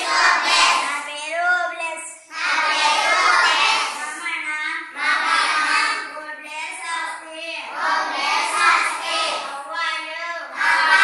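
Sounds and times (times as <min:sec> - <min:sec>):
children chanting in unison: 0:00.0 - 0:01.2, 0:02.2 - 0:11.0.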